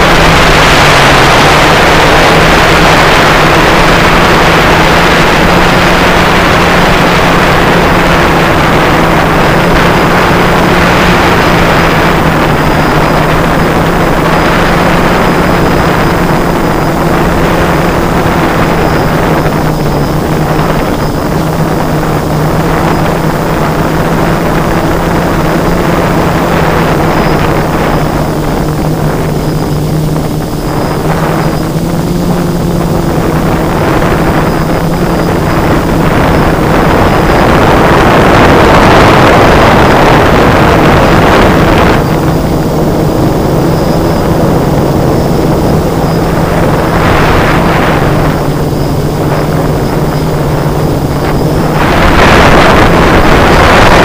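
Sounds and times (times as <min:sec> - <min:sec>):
drone motor hum and whine: 0:00.0 - 0:54.0
rush of air: 0:00.0 - 0:54.0.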